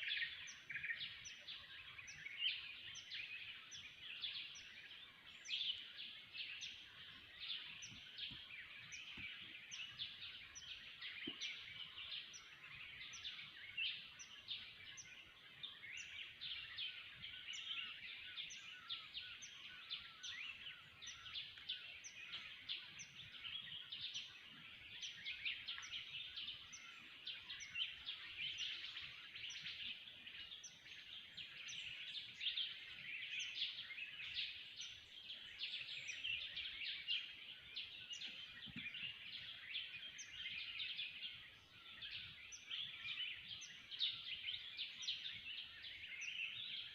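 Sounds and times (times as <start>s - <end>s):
chorus of forest birds: 0.0s - 46.9s.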